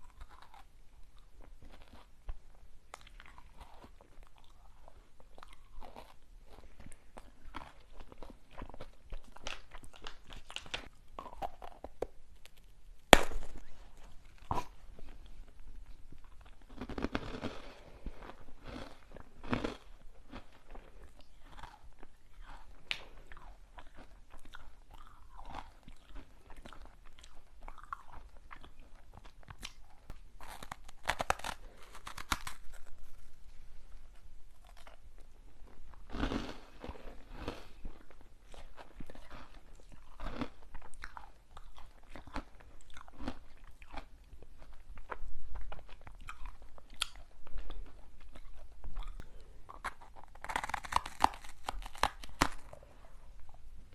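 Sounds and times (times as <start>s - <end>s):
crunching and chewing snacks: 0.0s - 53.6s.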